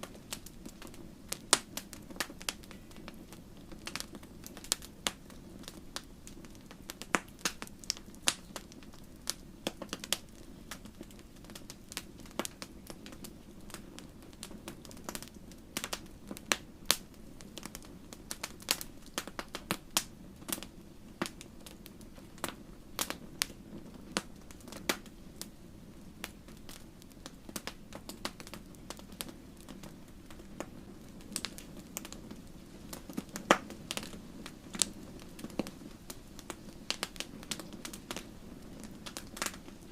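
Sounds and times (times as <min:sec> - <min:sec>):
low rush of flame: 0:00.0 - 0:39.9
wood fire crackling and popping: 0:00.0 - 0:39.9.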